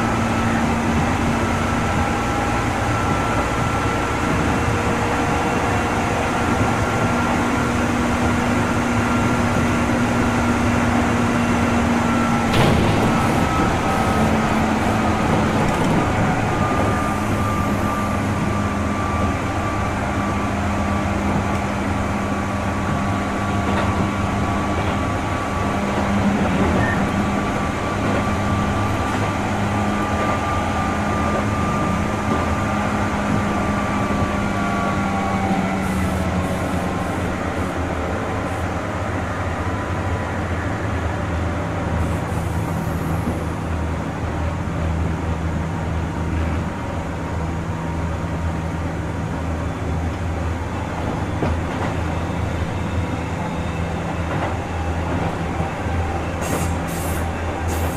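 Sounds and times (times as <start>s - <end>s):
electric train hum: 0.0s - 57.9s
train wheels rumbling on rail: 0.0s - 57.9s.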